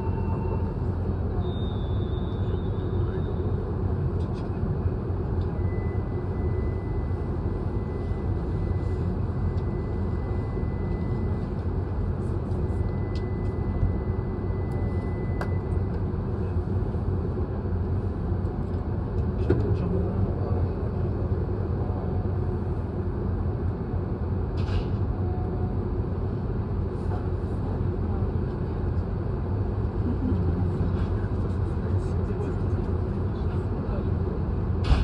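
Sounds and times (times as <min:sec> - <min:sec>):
low mechanical rumble: 0:00.0 - 0:35.0.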